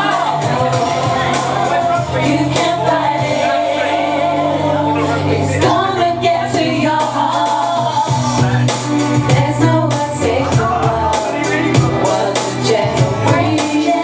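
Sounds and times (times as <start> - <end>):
person singing into a microphone: 0.0 - 14.0
pop backing track: 0.0 - 14.0.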